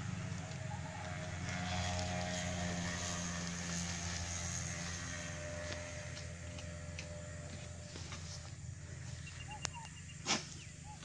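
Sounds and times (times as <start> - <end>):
small engine droning: 0.0 - 11.0.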